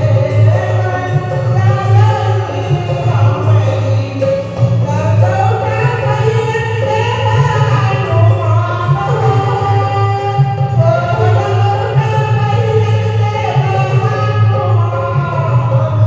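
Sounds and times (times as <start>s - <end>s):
instrumental accompaniment: 0.0s - 16.0s
person singing devotional song: 0.0s - 16.0s.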